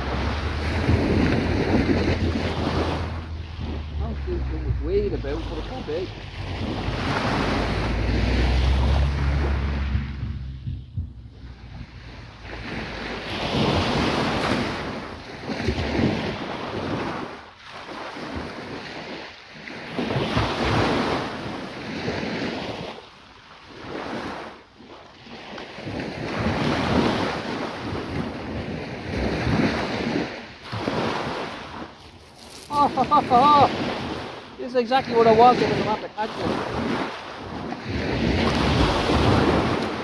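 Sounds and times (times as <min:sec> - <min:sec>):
wind on microphone: 0:00.0 - 0:23.0, 0:23.7 - 0:40.0
waves breaking on beach: 0:00.0 - 0:40.0.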